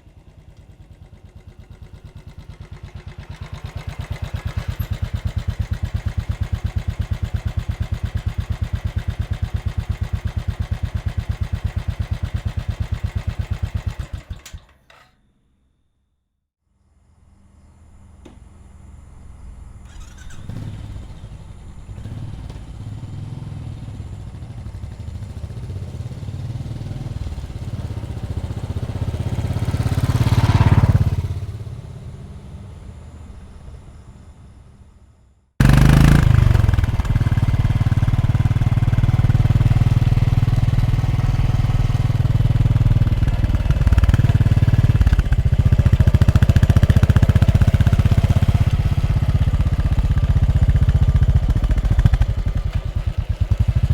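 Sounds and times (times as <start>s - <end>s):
motorcycle passing by: 0.0s - 14.2s, 19.7s - 33.8s, 35.6s - 53.9s
motorcycle engine running close: 0.0s - 14.7s, 19.4s - 53.9s.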